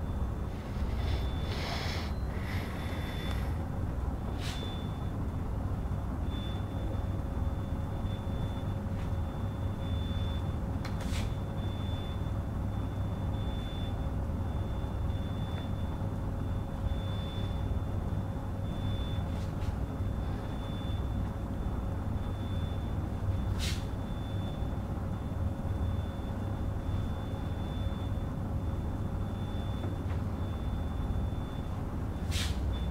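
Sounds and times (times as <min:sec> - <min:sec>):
faint constant whine: 0:00.0 - 0:32.9
low room hum: 0:00.0 - 0:32.9.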